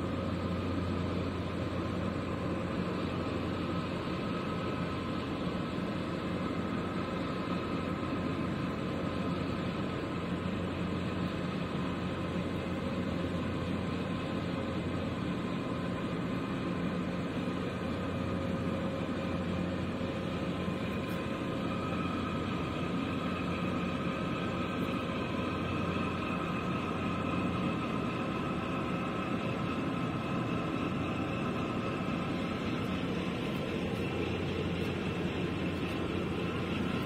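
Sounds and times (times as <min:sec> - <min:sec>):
ship machinery droning: 0:00.0 - 0:37.0.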